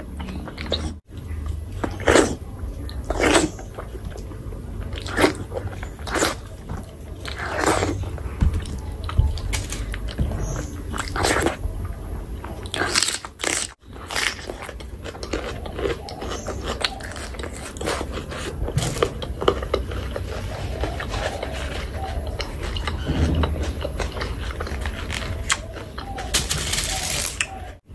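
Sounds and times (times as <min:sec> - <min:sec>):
chewing: 0:00.0 - 0:27.8.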